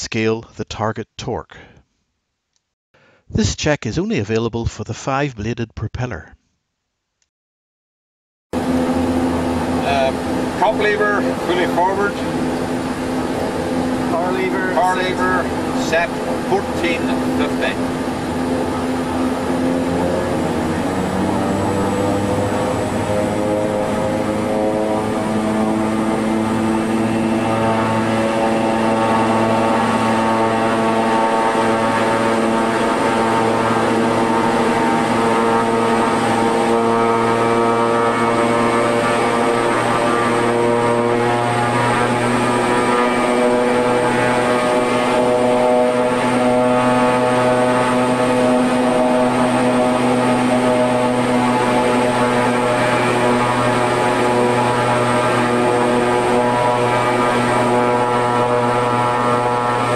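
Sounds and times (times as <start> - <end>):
turboprop engines droning: 8.6 - 59.9.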